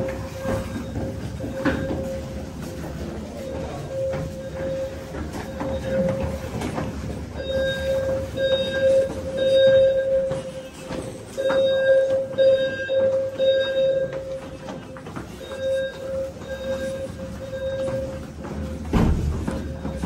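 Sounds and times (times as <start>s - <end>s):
fire alarm buzzy beeps: 3.4s - 20.0s.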